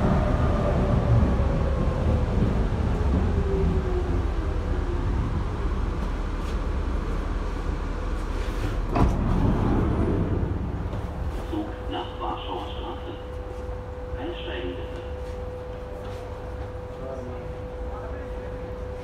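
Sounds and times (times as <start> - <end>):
train running gear rumble: 0.0 - 19.0.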